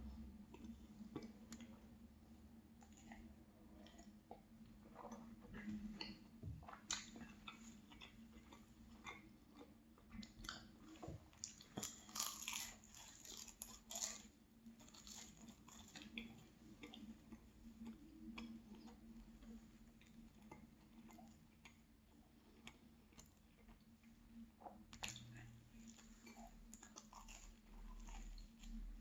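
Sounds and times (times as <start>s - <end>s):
person chewing flaky pastry: 0.1s - 2.0s, 2.6s - 29.0s.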